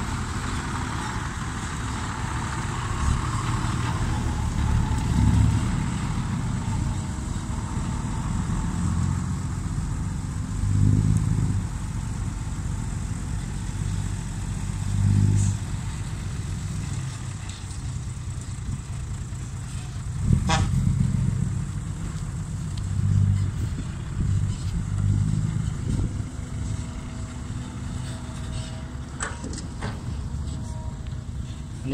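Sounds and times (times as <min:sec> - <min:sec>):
diesel truck engine revving: 0:00.0 - 0:31.9.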